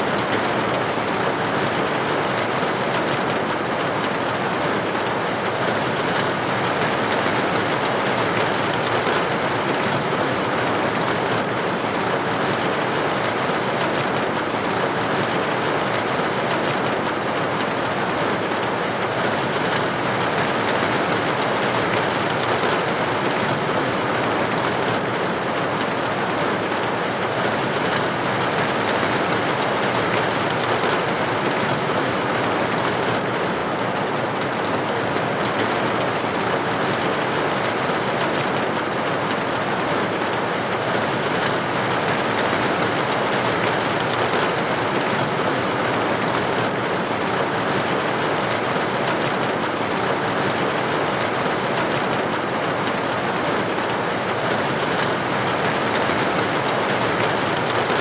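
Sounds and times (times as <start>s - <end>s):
rain pattering on window glass: 0.0s - 58.0s.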